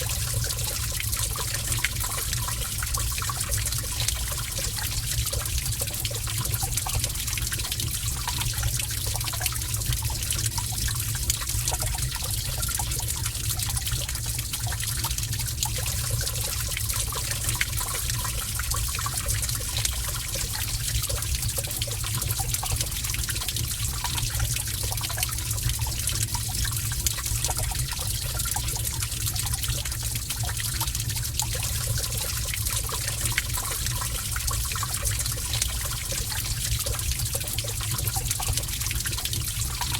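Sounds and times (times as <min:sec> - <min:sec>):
water running and trickling: 0:00.0 - 0:39.9
water splashes and drips: 0:00.0 - 0:39.9.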